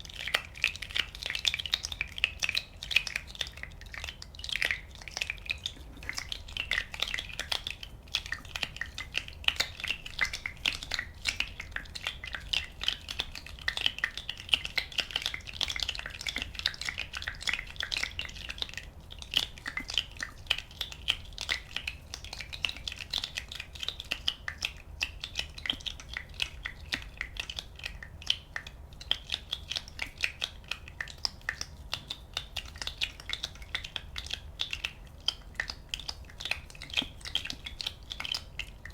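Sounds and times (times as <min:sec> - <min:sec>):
small bubbles popping: 0:00.0 - 0:38.9.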